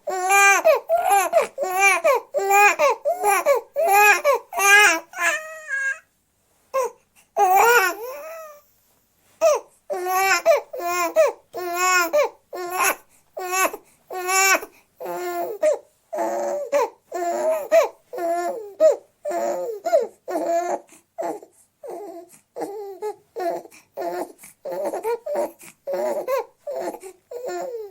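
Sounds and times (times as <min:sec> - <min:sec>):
baby crying: 0:00.0 - 0:06.1, 0:06.8 - 0:08.6, 0:09.4 - 0:27.9.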